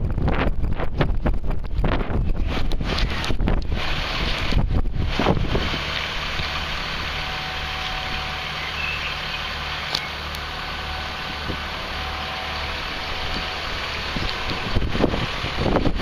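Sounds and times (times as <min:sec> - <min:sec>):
diesel excavator engine idling: 0:02.2 - 0:16.0.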